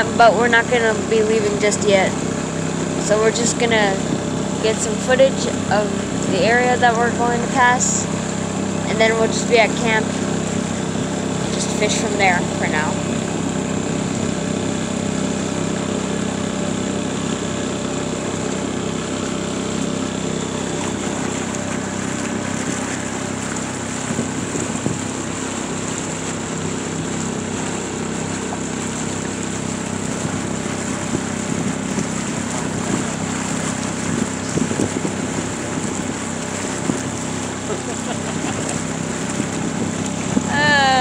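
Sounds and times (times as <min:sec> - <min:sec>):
outboard motor running: 0:00.0 - 0:41.0.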